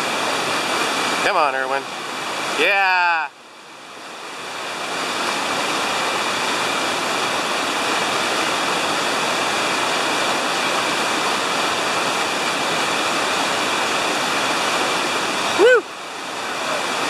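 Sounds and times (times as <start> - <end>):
whitewater rapids rushing: 0.0 - 17.0.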